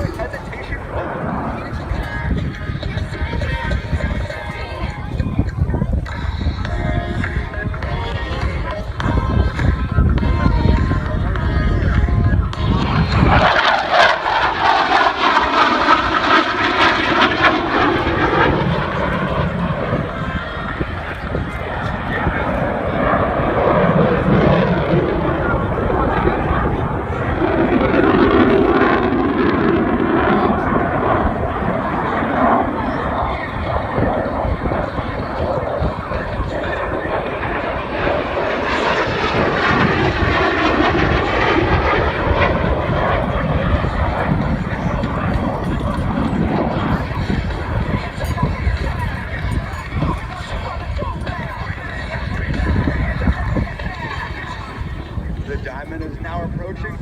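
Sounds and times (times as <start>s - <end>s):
fighter jet passing: 0.0s - 57.0s.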